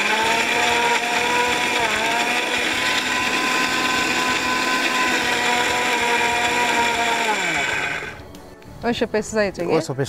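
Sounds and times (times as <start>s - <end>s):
mixer grinder motor whining: 0.0s - 8.2s.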